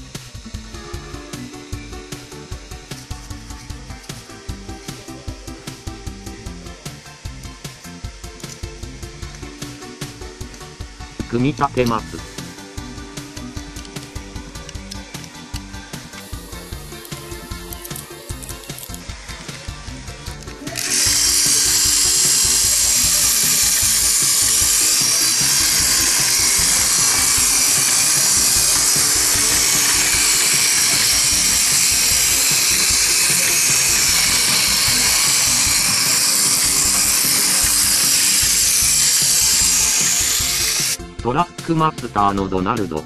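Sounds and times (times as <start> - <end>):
toy train motor whirring: 0.0 - 41.0.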